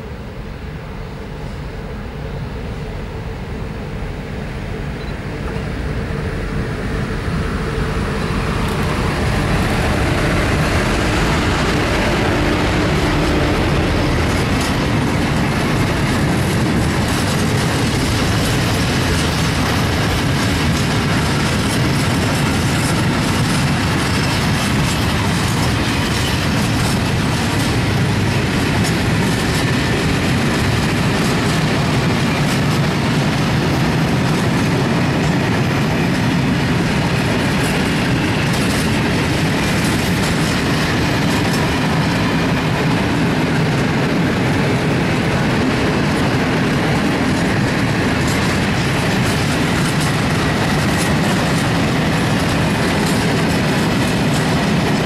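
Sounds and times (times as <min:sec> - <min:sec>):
freight train rumbling past: 0:00.0 - 0:55.0
wheels clacking over rail joints: 0:05.5 - 0:55.0.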